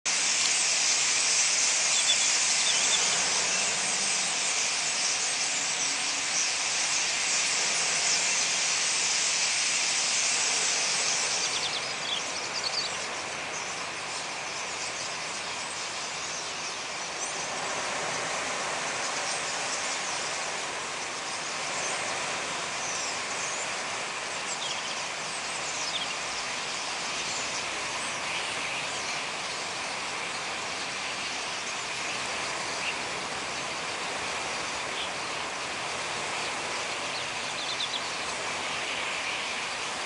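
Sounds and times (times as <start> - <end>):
starlings chattering and whistling: 0.1 - 40.0.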